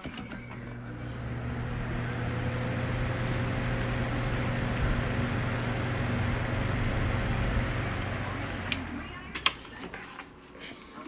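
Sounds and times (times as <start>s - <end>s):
box fan running: 0.1s - 9.7s.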